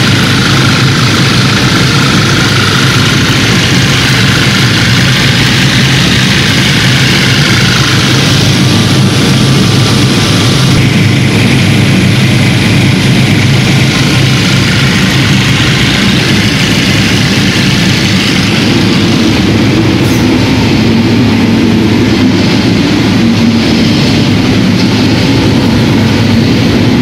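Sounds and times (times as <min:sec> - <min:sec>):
machinery drone: 0:00.0 - 0:27.0.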